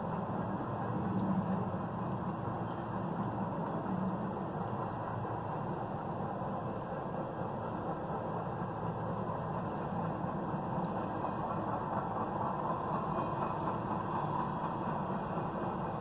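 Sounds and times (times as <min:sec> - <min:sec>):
distant freight train rumble: 0:00.0 - 0:16.0.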